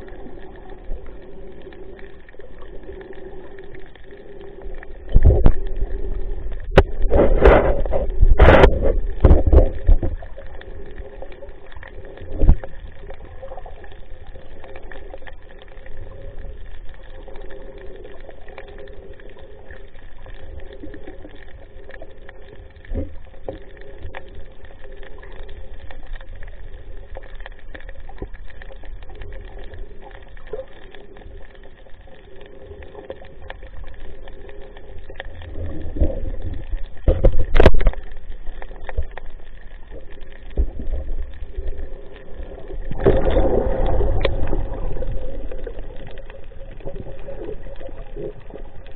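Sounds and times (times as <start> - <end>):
muffled water movement: 0.0 - 48.9.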